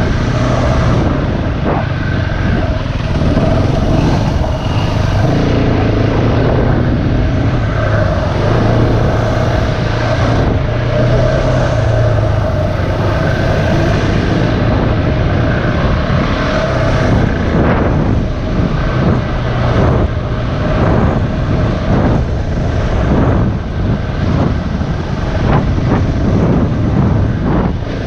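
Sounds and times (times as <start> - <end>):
dirt bike engine running: 0.0 - 28.0
rushing ride noise: 0.0 - 28.0.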